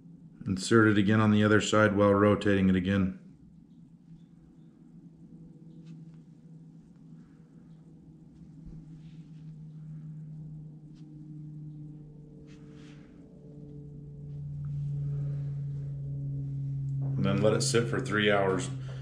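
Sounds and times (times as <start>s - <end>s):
soft music of low tones: 0.0s - 19.0s.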